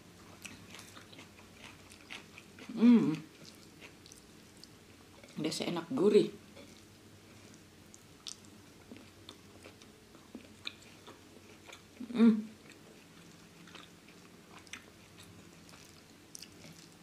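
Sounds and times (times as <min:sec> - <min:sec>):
person chewing crispy food: 0:00.2 - 0:05.3, 0:06.6 - 0:12.0, 0:12.6 - 0:17.0.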